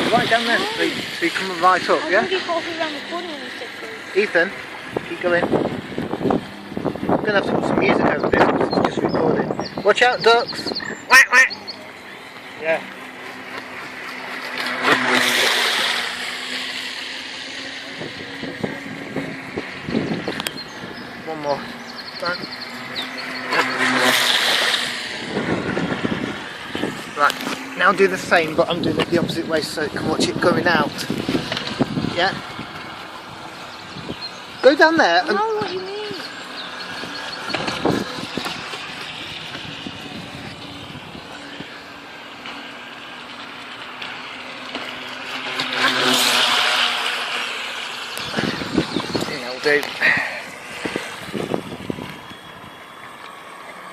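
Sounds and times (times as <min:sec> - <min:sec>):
model boat running past: 0:00.0 - 0:53.9.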